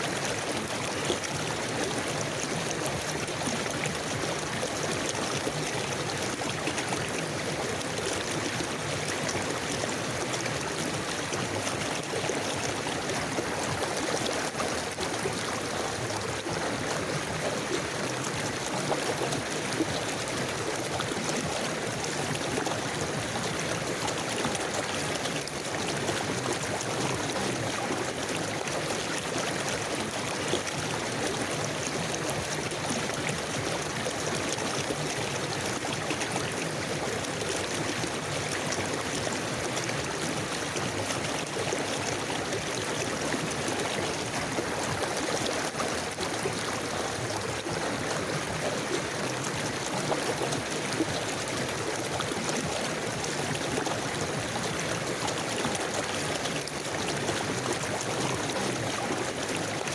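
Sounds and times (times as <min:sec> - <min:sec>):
river water rushing and gurgling: 0:00.0 - 0:59.9.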